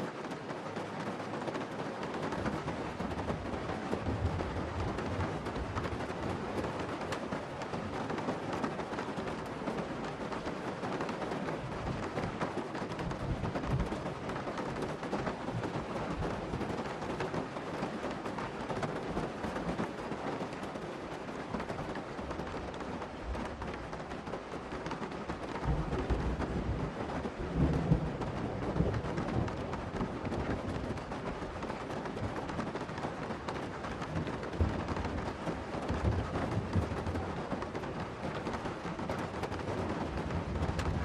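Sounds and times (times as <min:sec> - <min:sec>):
heavy rain on car roof: 0:00.0 - 0:41.0.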